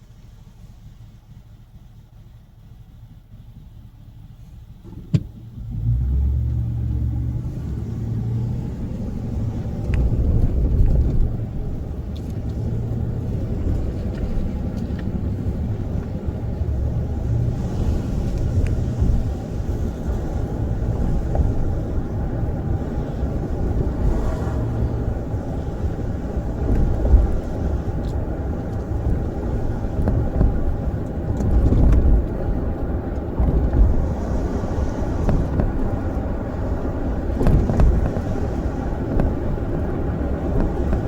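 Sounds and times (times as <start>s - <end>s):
thunder crack and rumble: 5.1s - 41.0s.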